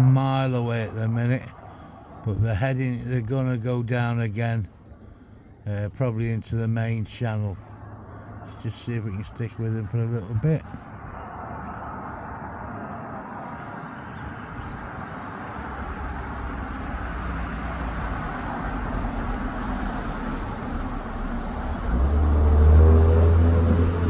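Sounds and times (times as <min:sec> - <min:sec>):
road traffic passing: 0:00.0 - 0:24.0
vehicle engine hum: 0:00.0 - 0:24.0.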